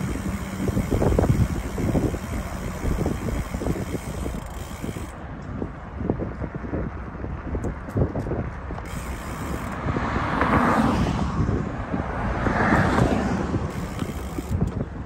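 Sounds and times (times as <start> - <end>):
cars passing: 0.0 - 7.5, 8.5 - 15.0
wind rumble on microphone: 0.0 - 15.0.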